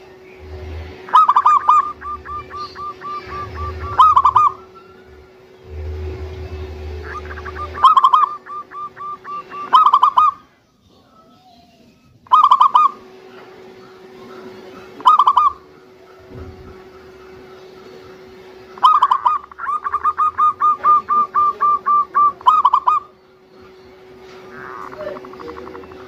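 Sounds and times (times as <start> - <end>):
dove cooing: 1.0 - 4.8, 6.9 - 10.5, 12.3 - 26.0.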